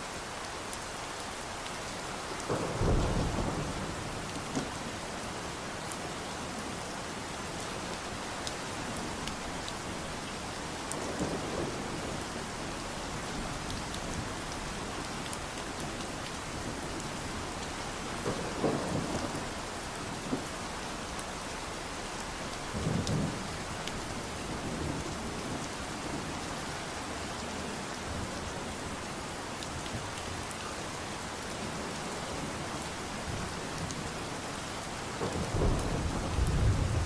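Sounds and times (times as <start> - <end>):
deeper rain surges: 0.0 - 37.0
steady rain hiss: 0.0 - 37.0.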